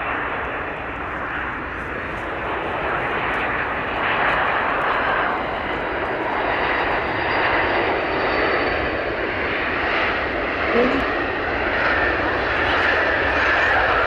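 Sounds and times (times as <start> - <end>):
airplane engines droning: 0.0 - 14.0.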